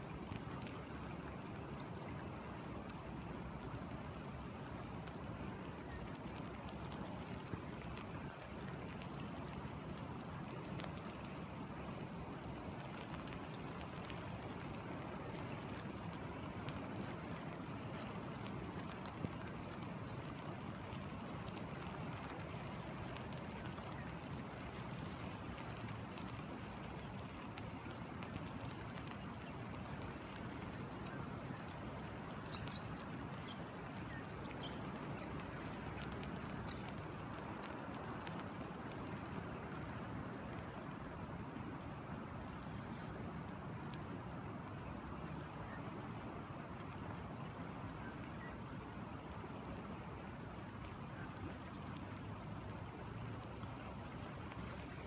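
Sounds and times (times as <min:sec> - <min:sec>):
steady water noise: 0:00.0 - 0:55.0
water ticks and drips: 0:00.0 - 0:55.0.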